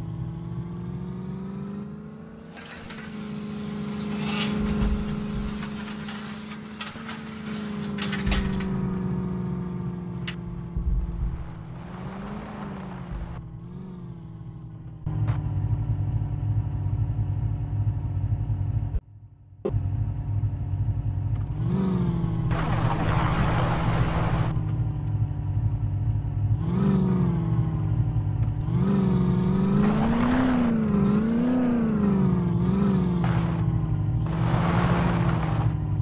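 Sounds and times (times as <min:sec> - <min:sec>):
car engine revving: 0:00.0 - 0:19.0, 0:19.6 - 0:36.0.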